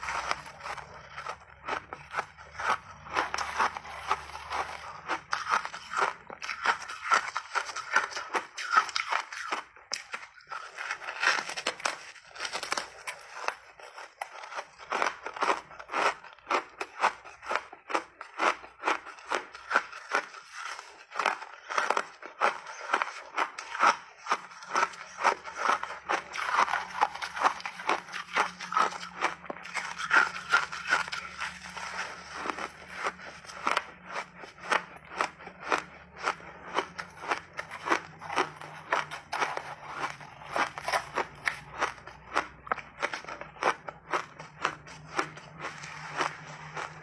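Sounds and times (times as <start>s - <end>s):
frozen berries crunching: 0.0s - 47.0s.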